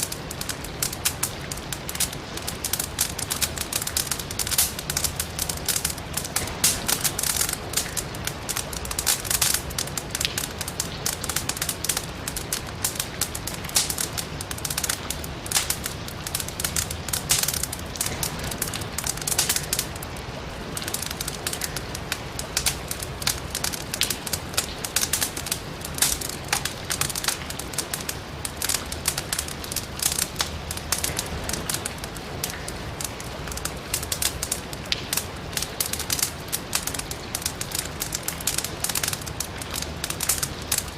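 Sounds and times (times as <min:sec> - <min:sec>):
rain hissing: 0:00.0 - 0:40.9
wood fire crackling: 0:00.0 - 0:40.9.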